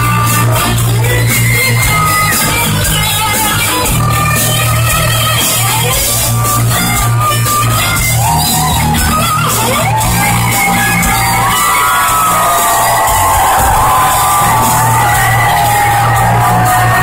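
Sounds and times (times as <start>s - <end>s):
bass and drums: 0.0s - 17.0s
electric guitar lead: 0.0s - 17.0s.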